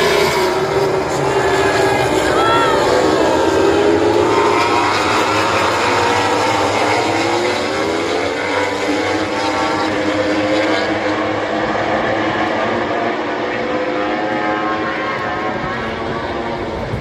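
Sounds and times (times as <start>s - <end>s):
motorcycle engines racing past: 0.0s - 17.0s.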